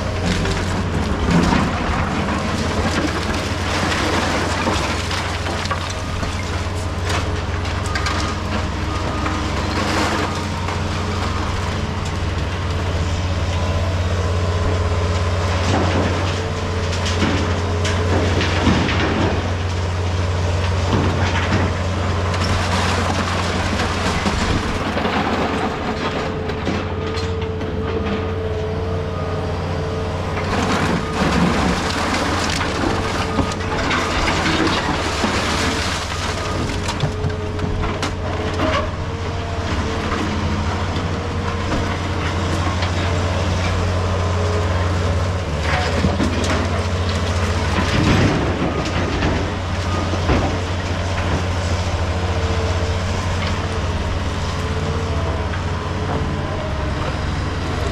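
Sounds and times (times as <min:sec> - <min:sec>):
concrete rubble crunching: 0:00.0 - 0:57.9
heavy diesel machine running: 0:00.0 - 0:57.9.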